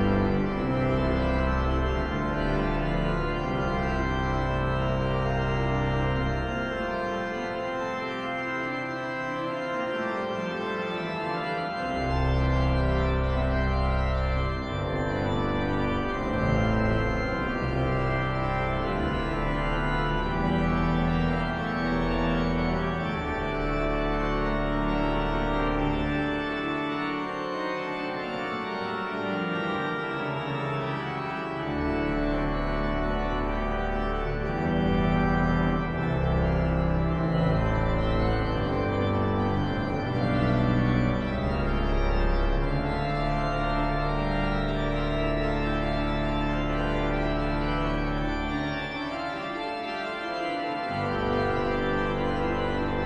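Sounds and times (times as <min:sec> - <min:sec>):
deep organ pedal notes: 0:00.0 - 0:53.0
pipe organ playing held chords: 0:00.0 - 0:53.0.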